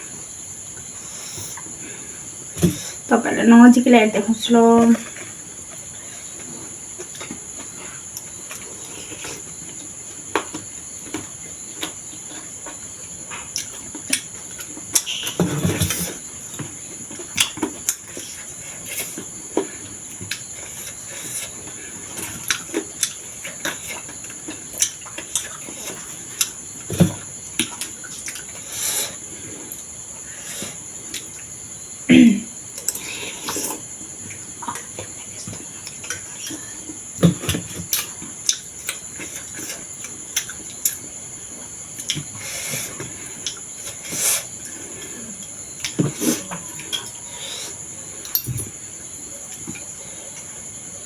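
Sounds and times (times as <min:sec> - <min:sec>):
crickets chirring: 0:00.0 - 0:51.0.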